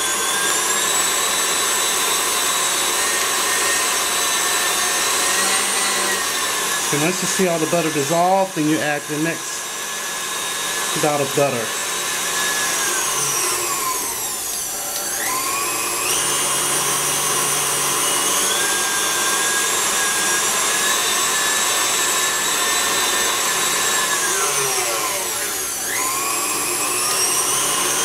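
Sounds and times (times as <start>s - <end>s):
stand mixer motor whine: 0.0s - 28.0s.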